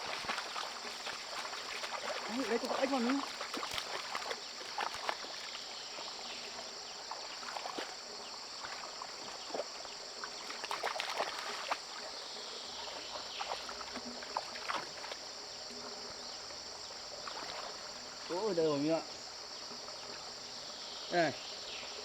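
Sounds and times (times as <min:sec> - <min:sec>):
insect chorus with crickets: 0:00.0 - 0:22.0
rustles through wet vegetation: 0:00.0 - 0:22.0.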